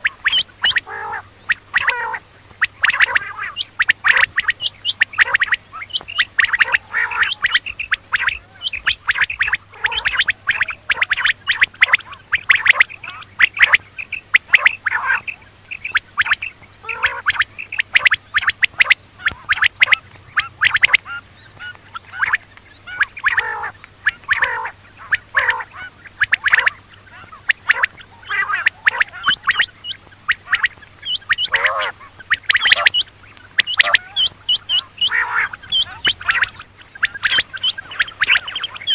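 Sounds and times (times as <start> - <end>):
faint steady hum: 0.0 - 38.9
quail calling: 0.0 - 38.9.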